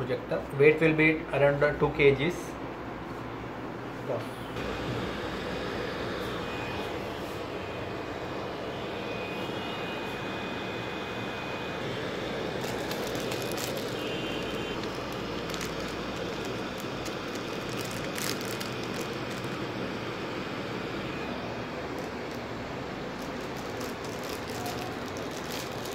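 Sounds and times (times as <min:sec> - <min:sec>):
projector cooling fan humming: 0:00.0 - 0:25.9.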